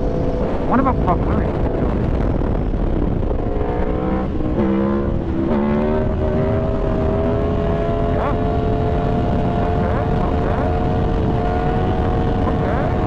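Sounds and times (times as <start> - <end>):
motorcycle engine running: 0.0 - 13.0
wind rumble: 0.0 - 13.0.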